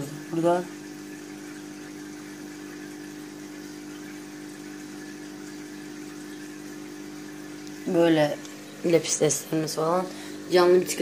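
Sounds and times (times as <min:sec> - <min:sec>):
aquarium pump humming: 0:00.0 - 0:11.0
faint hiss of moving water: 0:00.0 - 0:11.0.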